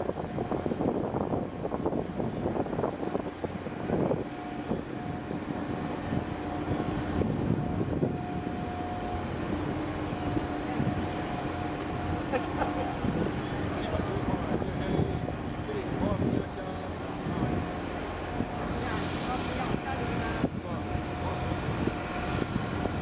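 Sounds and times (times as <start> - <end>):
ship machinery rumbling: 0.0 - 23.0
steady hum: 0.0 - 23.0
wind buffeting microphone: 0.0 - 23.0.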